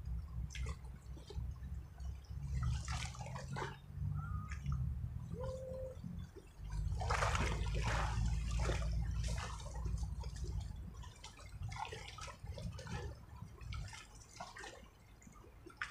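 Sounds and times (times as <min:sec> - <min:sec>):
low rumble: 0:00.0 - 0:13.9
flooded river water rushing: 0:00.0 - 0:15.9.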